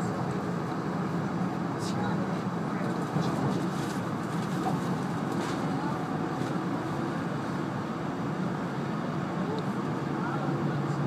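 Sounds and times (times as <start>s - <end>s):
train running noise inside car: 0.0s - 11.0s.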